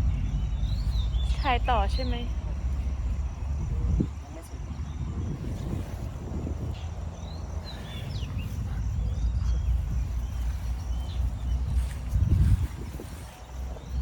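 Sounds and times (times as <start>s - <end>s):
small birds chirping: 0.0s - 14.0s
wind buffeting microphone: 0.0s - 14.0s.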